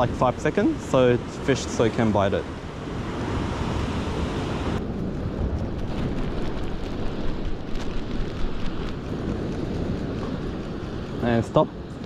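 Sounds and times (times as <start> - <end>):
ocean surf washing over rocks: 0.0 - 12.0
wind buffeting microphone: 0.0 - 12.0.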